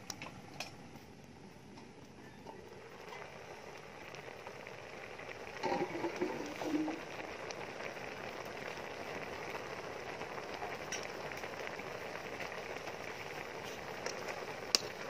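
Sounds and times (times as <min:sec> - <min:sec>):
soup boiling in a wok: 0:00.0 - 0:15.0
wood fire crackles: 0:00.0 - 0:15.0.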